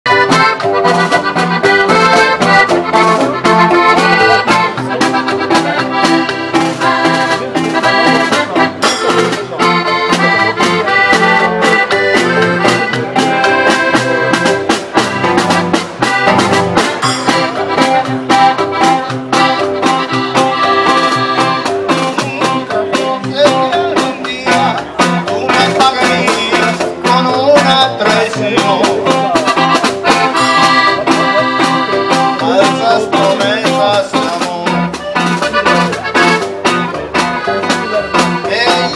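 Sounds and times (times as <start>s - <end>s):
live band playing: 0.0s - 38.9s
accordion melody: 0.1s - 38.9s.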